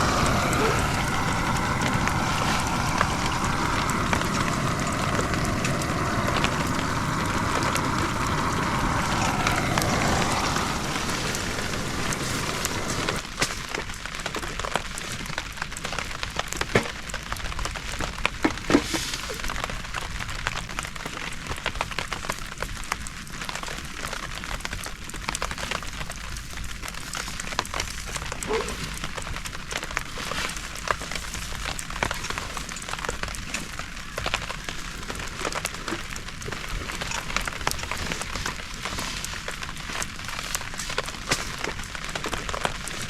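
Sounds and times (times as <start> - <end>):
rain pattering: 0.0 - 43.0.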